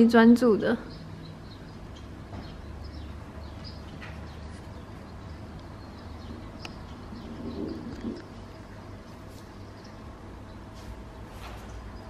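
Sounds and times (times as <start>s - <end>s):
birds chirping through tv speakers: 0.0s - 12.0s
steady low hum: 0.0s - 12.0s.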